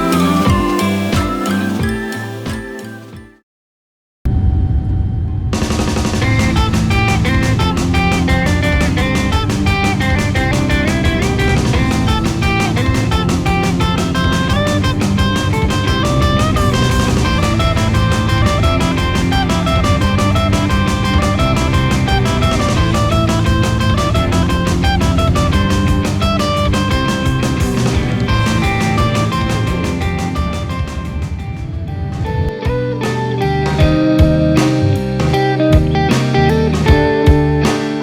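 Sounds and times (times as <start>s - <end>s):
guitar band music with drums: 0.0s - 3.3s, 5.6s - 38.0s.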